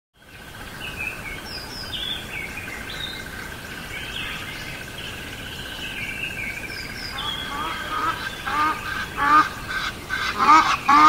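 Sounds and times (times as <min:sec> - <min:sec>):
birds chirping: 0:00.2 - 0:11.0
outdoor ambience hiss: 0:00.2 - 0:11.0.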